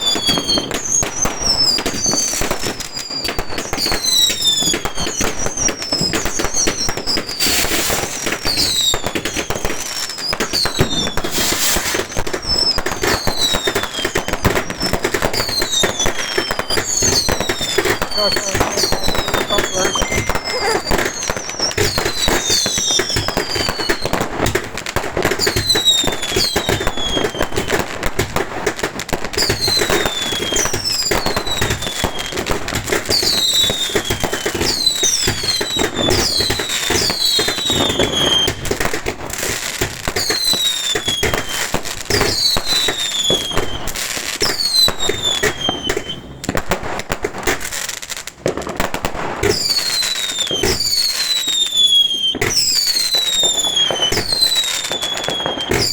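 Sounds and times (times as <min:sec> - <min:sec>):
falling firework whistles: 0:00.0 - 0:28.4, 0:29.3 - 0:46.8, 0:49.0 - 0:55.9
fireworks bangs and crackles: 0:00.0 - 0:55.9.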